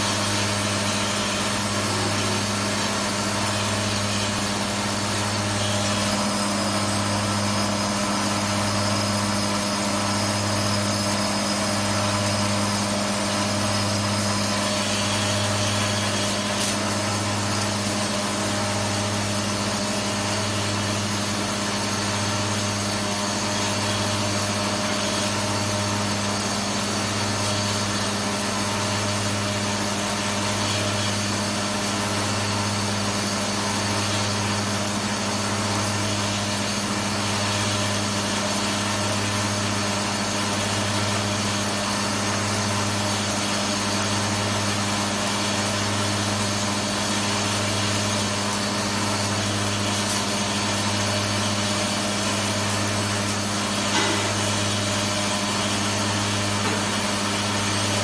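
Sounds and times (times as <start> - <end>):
bowl feeder drive hum: 0.0 - 58.0.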